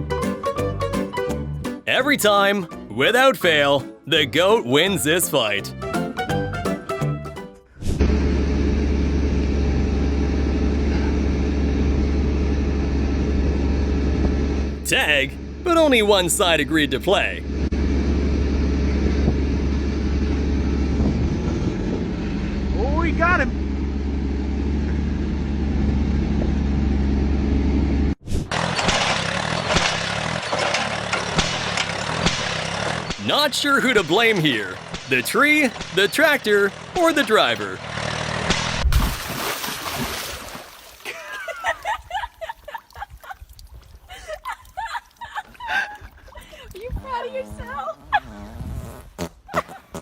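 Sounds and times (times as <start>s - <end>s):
engine humming: 0.0s - 48.3s.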